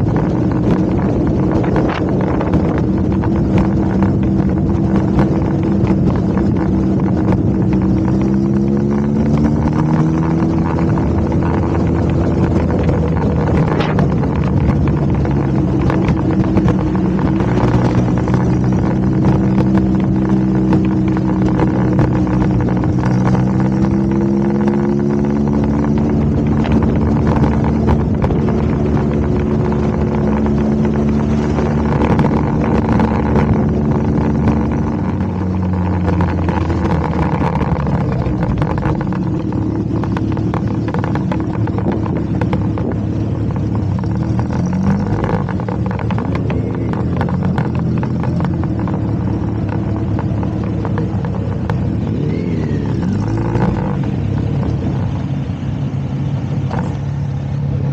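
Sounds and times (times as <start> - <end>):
motorcycle engine accelerating: 0.0 - 57.9
wind noise: 0.0 - 57.9.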